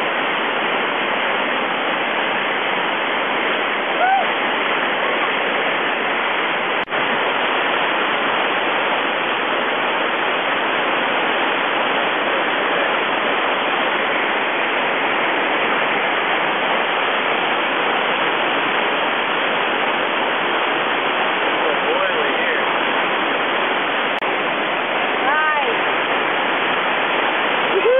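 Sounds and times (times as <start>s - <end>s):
whitewater rushing over boulders: 0.0s - 27.9s.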